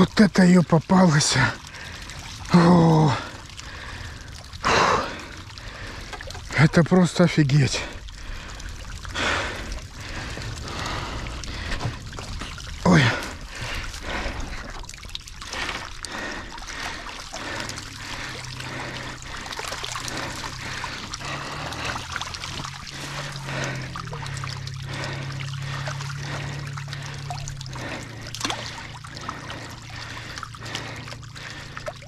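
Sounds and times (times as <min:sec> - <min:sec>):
fish splashing and slapping: 0:00.0 - 0:32.0
low steady hum: 0:00.0 - 0:32.0
water trickling and dripping: 0:00.0 - 0:32.0.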